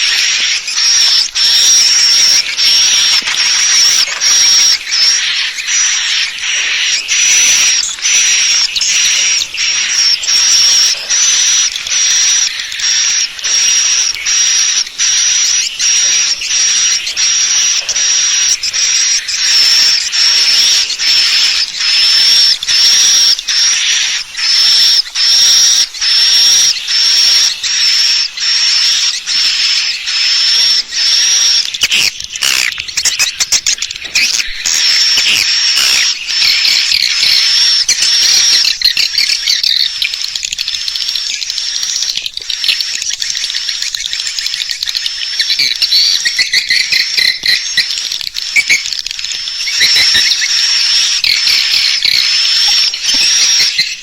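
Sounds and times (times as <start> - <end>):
swiftlet twittering calls: 0.0 - 54.0.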